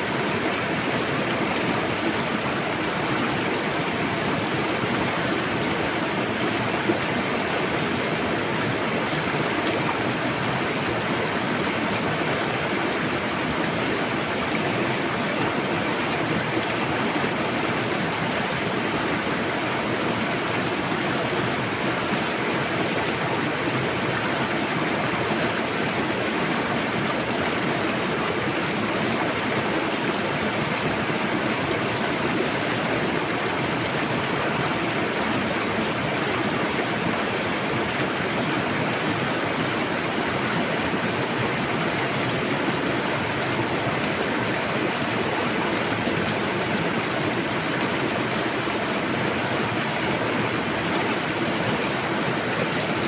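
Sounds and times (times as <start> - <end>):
fast-flowing river rushing: 0.0 - 53.0.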